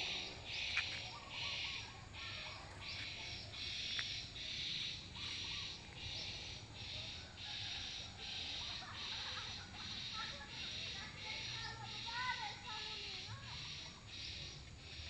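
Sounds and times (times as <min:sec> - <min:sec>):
insects buzzing in pulses: 0:00.0 - 0:15.0.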